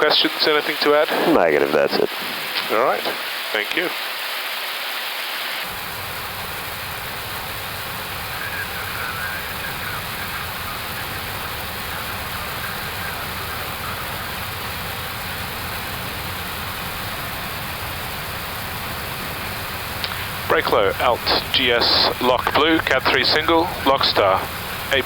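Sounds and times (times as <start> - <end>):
rushing airliner cockpit noise: 0.0 - 25.0.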